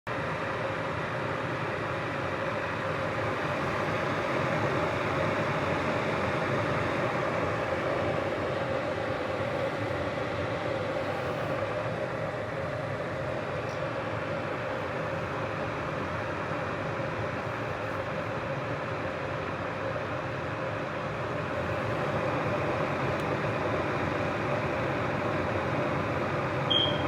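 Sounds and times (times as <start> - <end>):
electric kettle heating water: 0.1 - 27.0.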